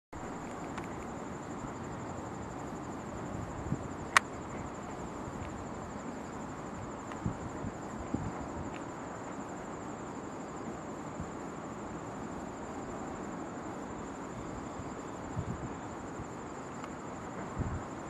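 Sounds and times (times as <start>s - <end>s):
insects trilling: 0.2s - 18.0s.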